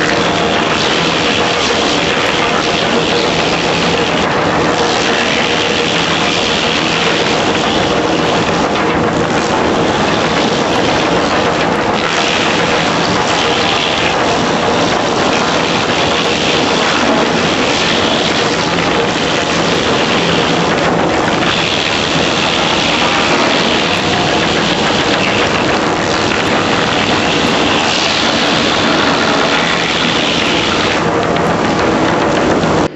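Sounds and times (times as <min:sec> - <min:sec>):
wood chipper running: 0:00.0 - 0:32.9.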